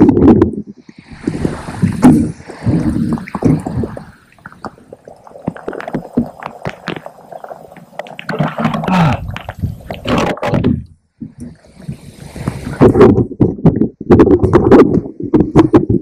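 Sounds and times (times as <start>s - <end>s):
water slapping against hull: 0.0s - 16.0s.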